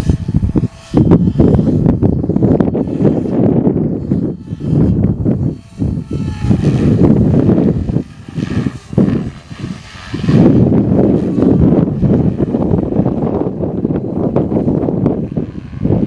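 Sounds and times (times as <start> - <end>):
rc helicopter motor whine: 0.0 - 16.0
wind buffeting microphone: 0.0 - 16.0.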